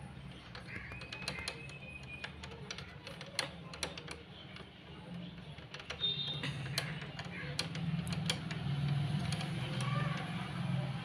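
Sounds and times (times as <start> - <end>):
beak clicking on metal bolt: 0.2 - 11.0.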